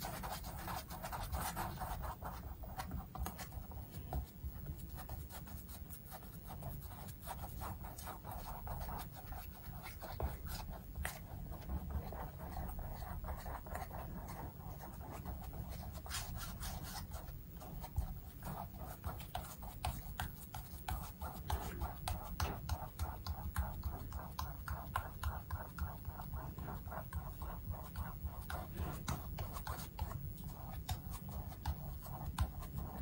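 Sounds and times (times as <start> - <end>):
paintbrush scratching on canvas: 0.0 - 33.0.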